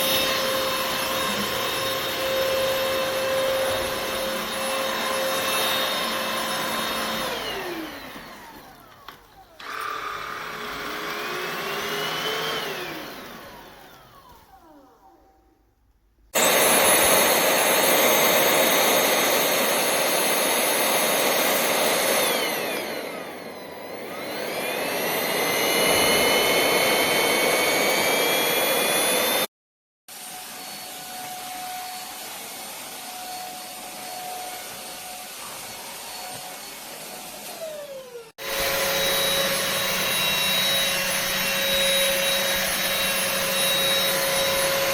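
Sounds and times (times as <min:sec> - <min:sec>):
stick vacuum whirring: 0:00.0 - 0:15.4, 0:16.4 - 0:29.5, 0:30.2 - 0:44.9.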